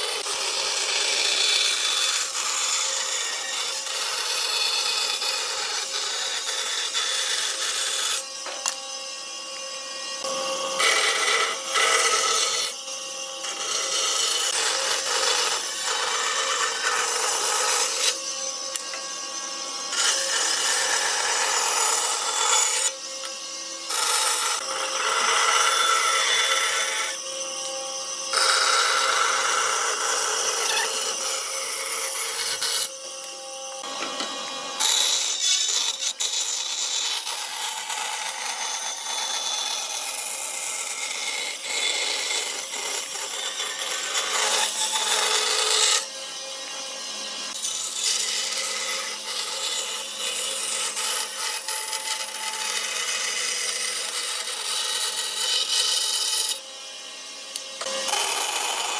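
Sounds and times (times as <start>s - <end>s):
tools rasping and sawing wood: 0.0s - 56.8s, 57.4s - 58.9s.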